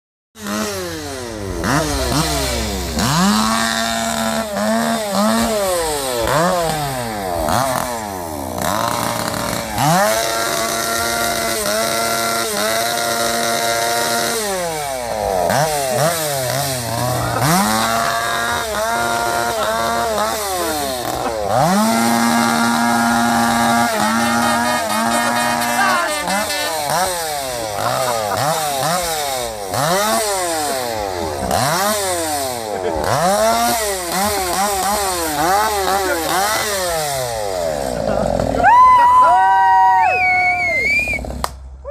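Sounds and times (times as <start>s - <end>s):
motocross bike engines revving: 0.4s - 41.9s.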